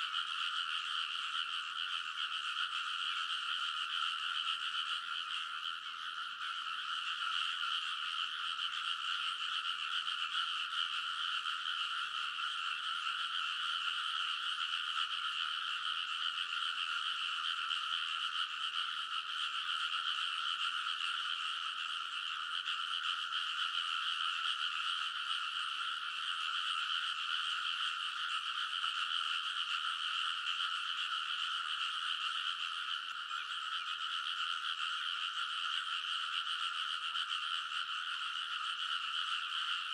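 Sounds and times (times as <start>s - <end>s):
frogs croaking in chorus: 0.0s - 39.9s.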